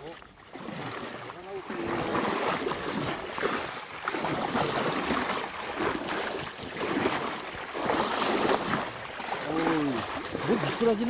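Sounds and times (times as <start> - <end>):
feet wading through water: 0.0 - 11.0
water sloshing and splashing: 0.0 - 11.0.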